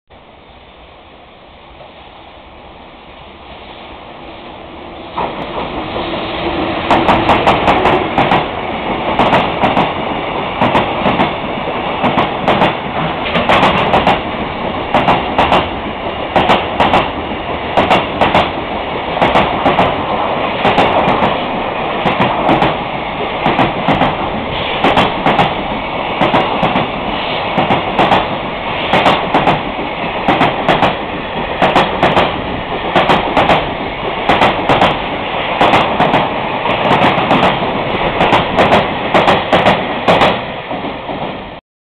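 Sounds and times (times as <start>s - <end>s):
train rumble: 0.3s - 41.6s.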